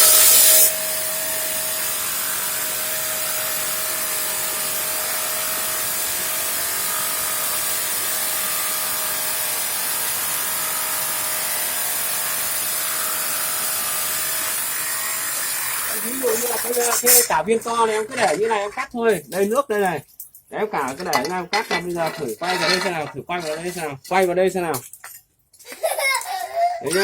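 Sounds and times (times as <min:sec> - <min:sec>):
tile cutting saw running: 0:00.0 - 0:18.9, 0:21.0 - 0:23.9.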